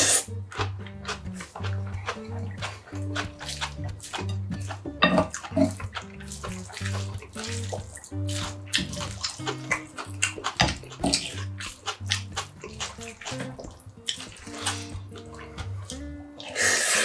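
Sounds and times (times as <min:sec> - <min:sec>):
background music with bass line: 0:00.0 - 0:16.4
wet chewing and mouth smacking: 0:00.0 - 0:17.0.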